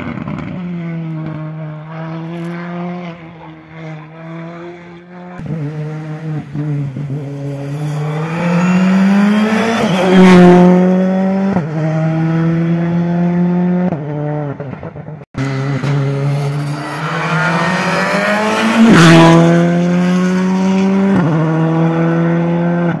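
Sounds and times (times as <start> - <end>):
rally car engines at full throttle: 0.0 - 23.0.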